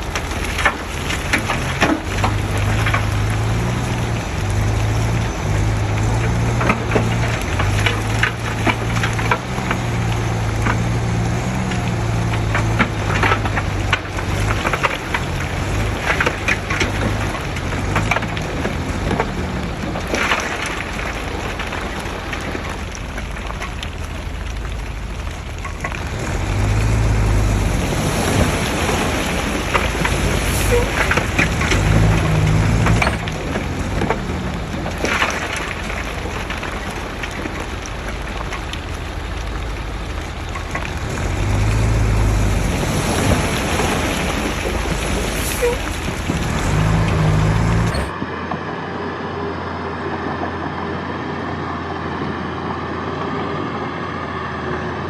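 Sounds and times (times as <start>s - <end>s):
gritty crackling of soil: 0.0s - 48.6s
diesel engine drone: 0.0s - 55.0s.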